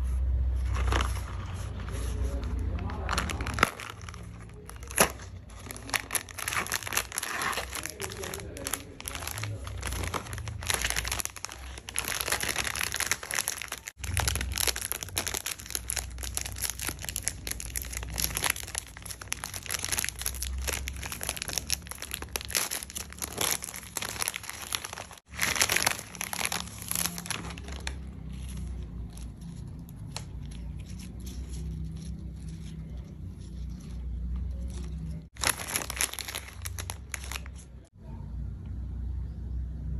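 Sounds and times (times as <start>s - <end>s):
foil pouch crinkling and tearing: 0.8s - 33.9s, 34.6s - 37.9s.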